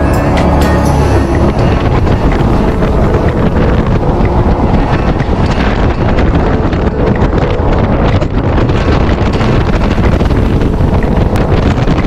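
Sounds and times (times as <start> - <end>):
boat engine: 0.0 - 12.0
rushing water: 0.0 - 12.0
wind buffeting microphone: 0.0 - 12.0.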